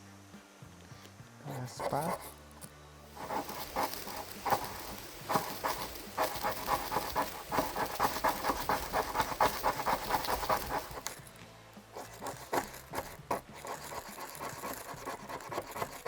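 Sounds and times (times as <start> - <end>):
ferro rod scraping: 3.1 - 16.0.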